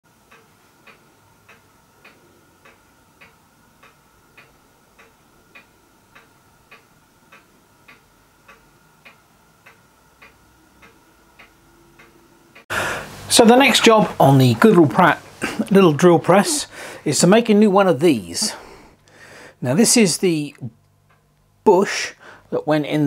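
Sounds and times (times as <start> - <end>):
faint steady ticking: 0.1 - 23.0.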